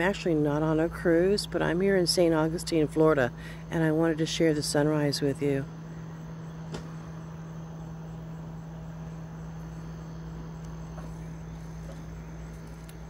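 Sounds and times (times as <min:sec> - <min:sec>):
low even hum: 0:00.0 - 0:13.0.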